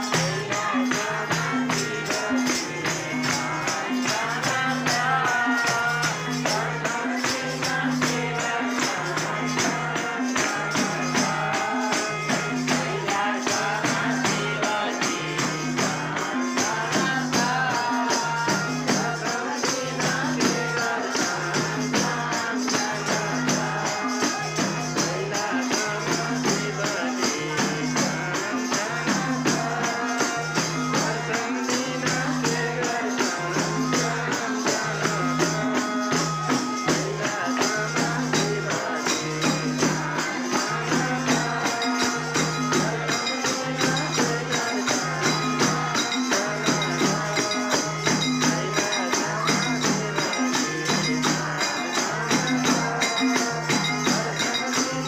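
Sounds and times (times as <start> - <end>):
jingling percussion: 0.0 - 55.0
voices singing: 0.0 - 55.0.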